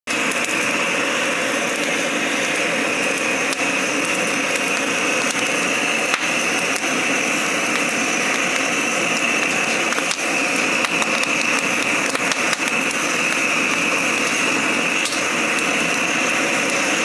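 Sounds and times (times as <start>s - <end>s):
gas burner flame rushing: 0.1s - 17.0s.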